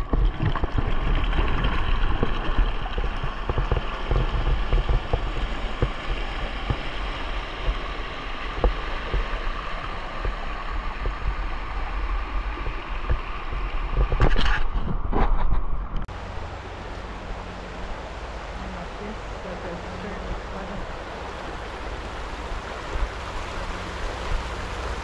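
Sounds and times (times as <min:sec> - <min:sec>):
creek water rushing: 0:00.0 - 0:14.3, 0:16.1 - 0:25.0
wind buffeting microphone: 0:00.0 - 0:25.0.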